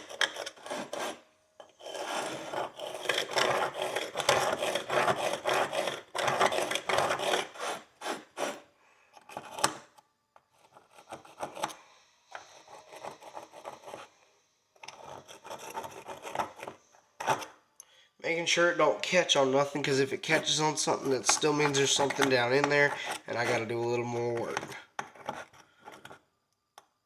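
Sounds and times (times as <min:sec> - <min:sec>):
pick scraping a horseshoe: 0:00.0 - 0:09.9, 0:10.6 - 0:14.1, 0:14.8 - 0:17.5, 0:19.3 - 0:26.2.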